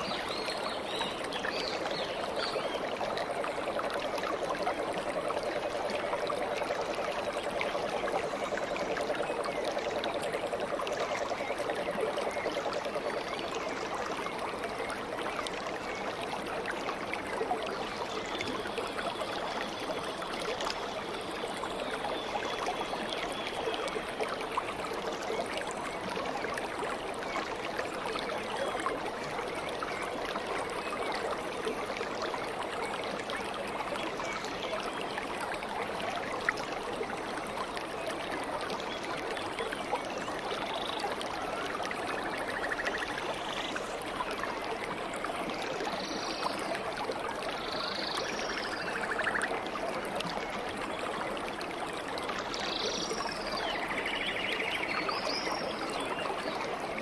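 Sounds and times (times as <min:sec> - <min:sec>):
small water splashes: 0:00.0 - 0:57.0
stream water babbling: 0:00.0 - 0:57.0.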